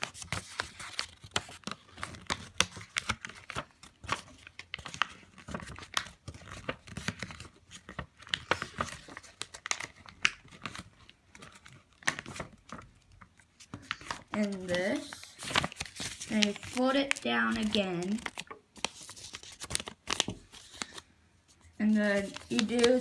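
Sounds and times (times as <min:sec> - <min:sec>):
paper being folded and creased: 0:00.0 - 0:23.0.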